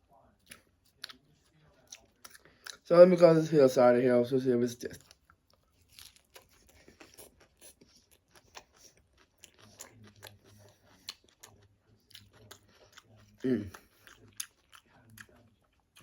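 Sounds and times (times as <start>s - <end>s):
person chewing crunchy salad: 0.4s - 2.8s, 5.0s - 16.0s.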